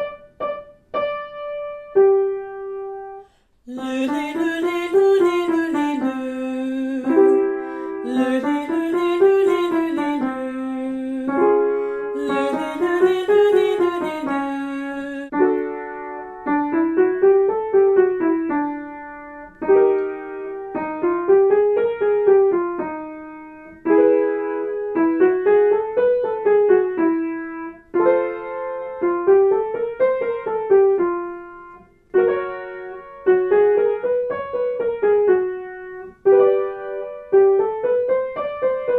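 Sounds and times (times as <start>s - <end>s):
piano scales and chords: 0.0s - 38.9s.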